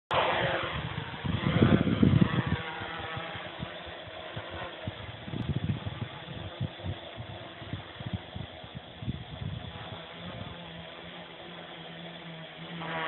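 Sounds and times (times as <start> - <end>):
wind buffeting microphone: 0.1 - 11.6
drone motors whining: 0.1 - 13.0.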